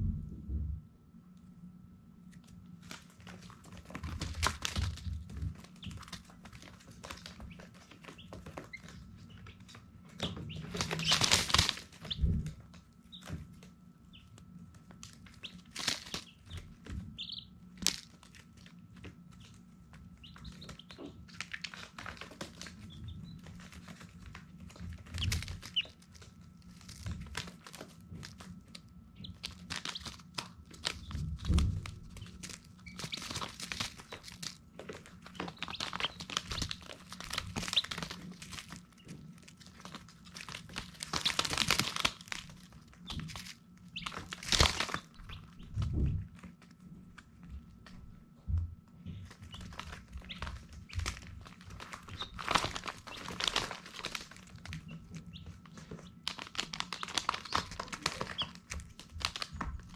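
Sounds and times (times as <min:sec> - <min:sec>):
faint steady hum: 0:00.0 - 0:59.9
chicks scuffling and flapping: 0:02.3 - 0:59.9
chicks peeping: 0:03.1 - 0:46.4, 0:49.0 - 0:59.9.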